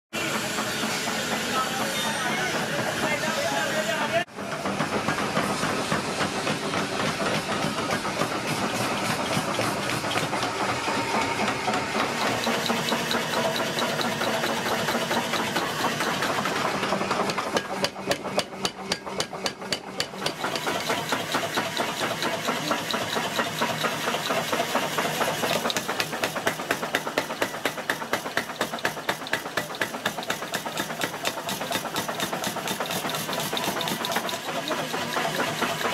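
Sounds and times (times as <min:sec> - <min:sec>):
power hammer pounding: 0:00.2 - 0:35.9.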